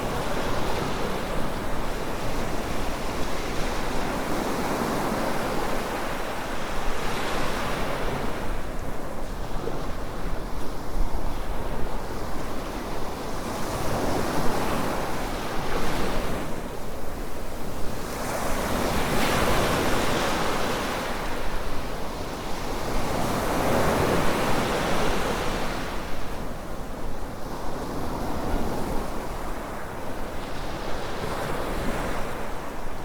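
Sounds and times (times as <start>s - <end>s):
waves breaking on a beach: 0.0s - 33.0s.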